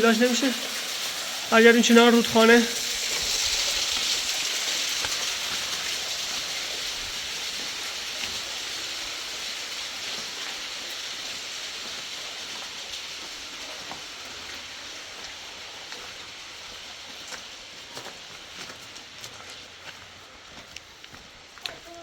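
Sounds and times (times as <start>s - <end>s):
rushing river water: 0.0s - 20.5s.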